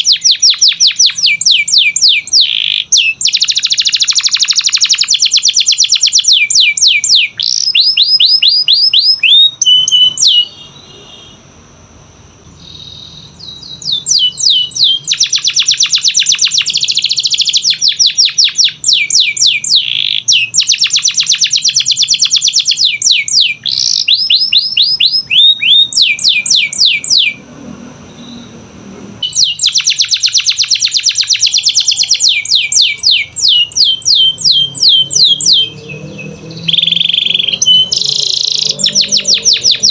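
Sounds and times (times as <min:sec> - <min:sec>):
canary singing trills: 0:00.0 - 0:11.3, 0:12.5 - 0:27.5, 0:28.1 - 0:28.6, 0:29.2 - 0:39.9.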